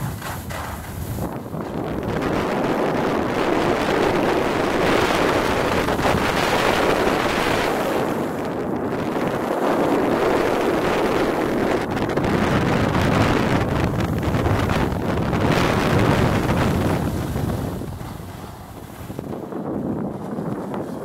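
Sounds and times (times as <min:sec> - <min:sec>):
skis sliding on packed snow: 0:00.0 - 0:11.8, 0:12.8 - 0:21.0
wind rushing over microphone: 0:00.0 - 0:21.0.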